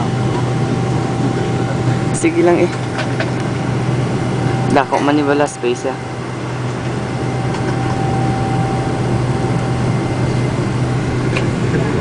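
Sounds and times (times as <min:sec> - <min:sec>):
jet engines in aircraft cabin: 0:00.0 - 0:12.0
thin steady whine: 0:00.0 - 0:12.0.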